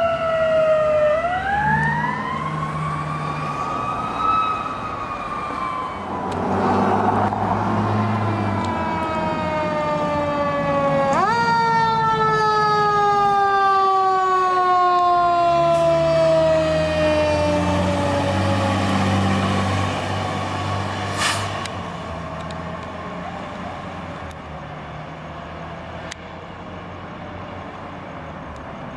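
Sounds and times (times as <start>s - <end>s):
fire engine siren: 0.0s - 28.4s
diesel engine rumbling: 0.0s - 28.9s.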